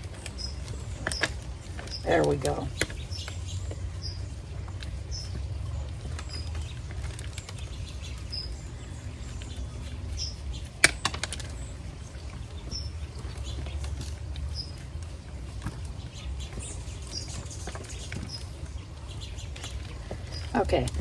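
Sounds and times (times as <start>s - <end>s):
hands crumbling wet soil: 0.0s - 21.0s
small bird chirping: 0.0s - 21.0s
steady low rumble: 0.0s - 21.0s.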